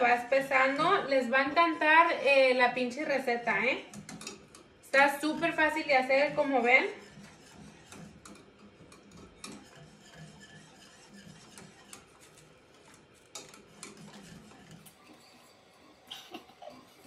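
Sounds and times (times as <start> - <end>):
whisk scraping metal saucepan: 0.0 - 17.0.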